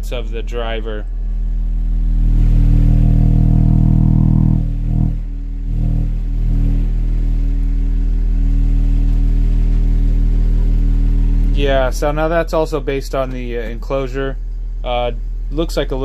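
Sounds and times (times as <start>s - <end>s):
subwoofer distorted low test tone: 0.0s - 16.0s.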